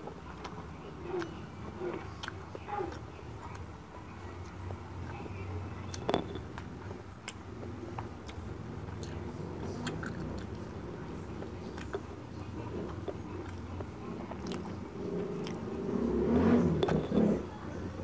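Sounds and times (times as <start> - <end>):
person chewing food: 0.0 - 5.3, 5.9 - 10.8, 11.4 - 17.4
low steady hum: 0.0 - 18.0.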